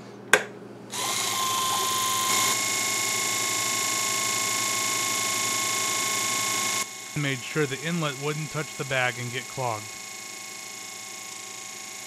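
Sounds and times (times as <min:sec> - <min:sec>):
water pump buzzing: 0:00.9 - 0:12.0.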